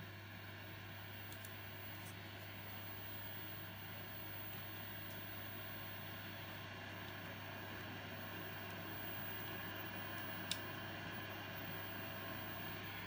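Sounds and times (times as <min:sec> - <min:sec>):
low mains hum: 0:00.0 - 0:13.0.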